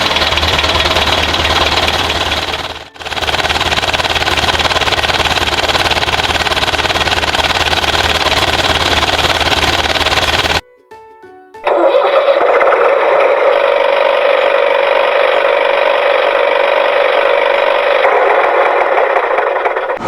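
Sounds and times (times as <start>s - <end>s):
electronic engine drone: 0.0s - 10.6s, 11.7s - 20.0s.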